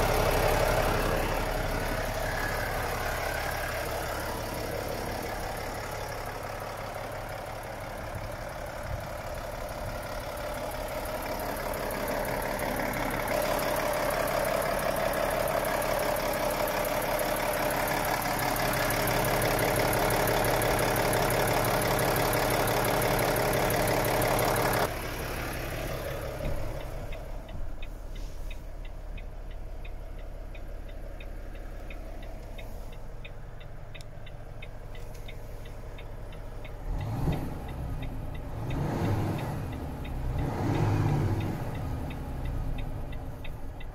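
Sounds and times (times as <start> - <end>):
faint regular ticking: 0.0 - 43.9
truck diesel engine idling: 0.0 - 43.9.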